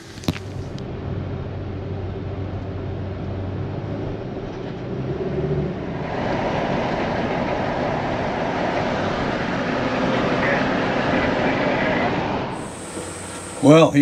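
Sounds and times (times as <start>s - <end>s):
car engine drone: 0.0s - 14.0s
wind and tyre noise: 0.0s - 14.0s.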